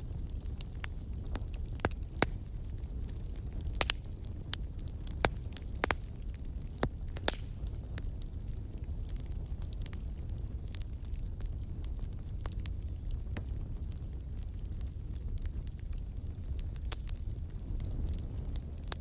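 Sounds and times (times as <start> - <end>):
fire crackling and popping: 0.0 - 19.0
low rumble of burning: 0.0 - 19.0.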